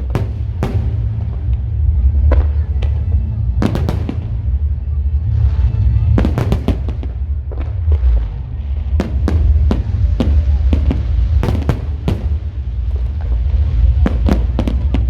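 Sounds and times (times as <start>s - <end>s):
firecrackers banging: 0.0s - 15.0s
low rumble: 0.0s - 15.0s.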